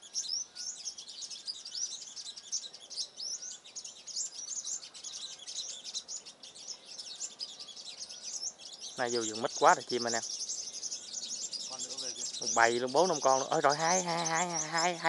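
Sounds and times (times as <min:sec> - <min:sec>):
sunbirds twittering: 0:00.0 - 0:15.0.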